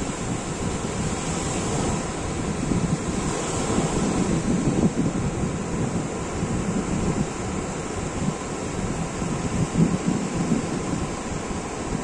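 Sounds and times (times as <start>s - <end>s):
sea waves breaking on shore: 0.0s - 12.0s
wind rumbling on microphone: 0.0s - 12.0s.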